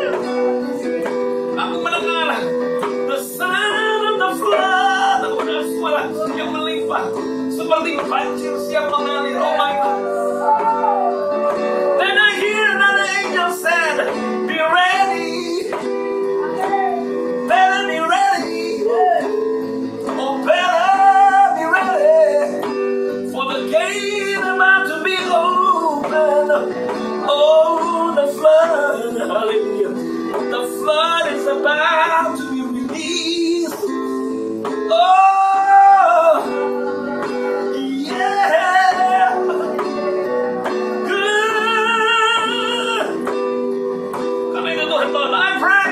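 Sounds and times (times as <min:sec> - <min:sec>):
man singing: 0:00.0 - 0:43.7, 0:44.4 - 0:45.9
electronic keyboard chords: 0:00.0 - 0:45.9.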